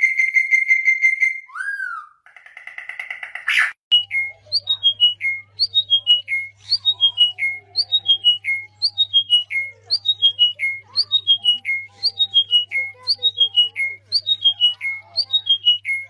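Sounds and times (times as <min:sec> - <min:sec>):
songbird whistling: 0:00.0 - 0:02.2, 0:03.4 - 0:16.0.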